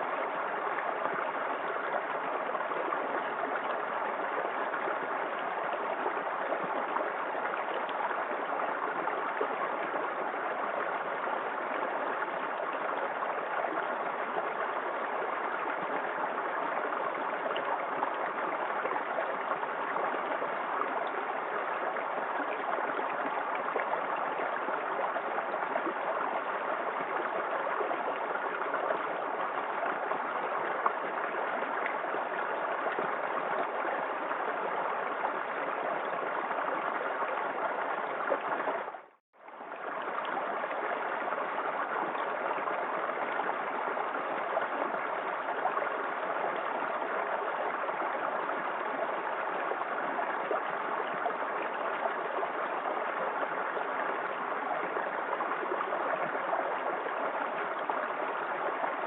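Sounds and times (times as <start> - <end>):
small waterfall rushing and splashing: 0.0 - 59.0.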